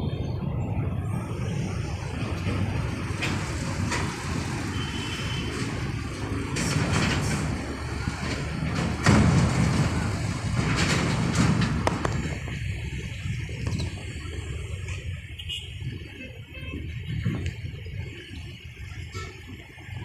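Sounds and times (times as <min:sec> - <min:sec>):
heavy machinery engine rumble: 0:00.0 - 0:20.0.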